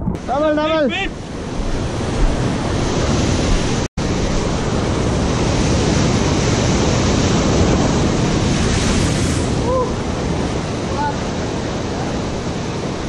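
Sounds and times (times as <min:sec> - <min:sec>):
surf breaking over rocks: 0:00.1 - 0:13.0.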